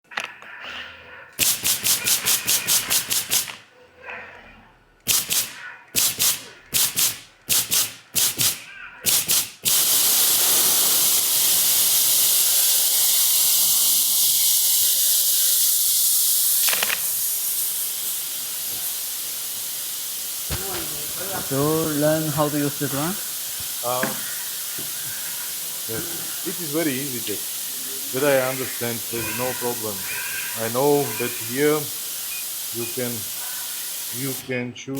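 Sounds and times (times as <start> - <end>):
loud welding hiss: 1.4 - 3.6, 5.1 - 34.6
welding pulses: 5.1 - 34.4.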